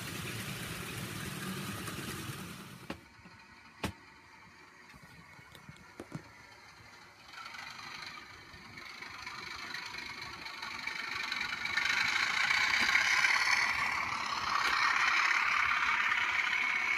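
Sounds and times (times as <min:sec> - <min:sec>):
model train locomotive running: 0:00.0 - 0:16.9.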